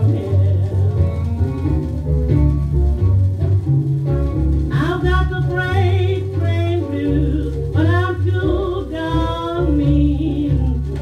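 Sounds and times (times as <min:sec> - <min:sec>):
old jazz-blues record playing: 0:00.0 - 0:11.0.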